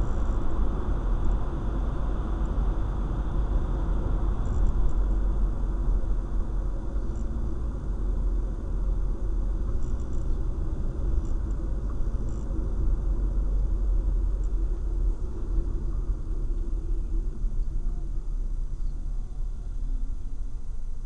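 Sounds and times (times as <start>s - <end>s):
car driving rumble from inside: 0.0s - 21.0s.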